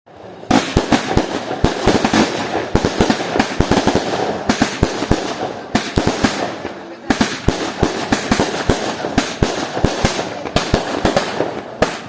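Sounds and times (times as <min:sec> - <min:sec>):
fireworks banging: 0:00.1 - 0:12.0
fireworks crackling: 0:00.1 - 0:12.0.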